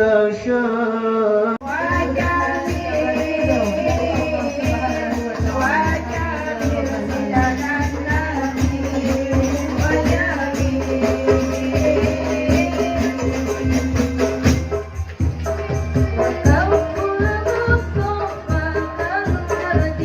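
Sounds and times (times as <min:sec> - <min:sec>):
music with fast percussion beat: 0:01.6 - 0:20.0.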